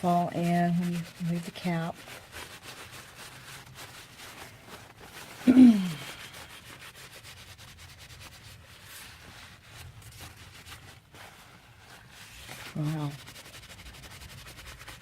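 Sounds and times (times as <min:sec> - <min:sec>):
rubbing and wiping a cap: 0:00.0 - 0:15.0.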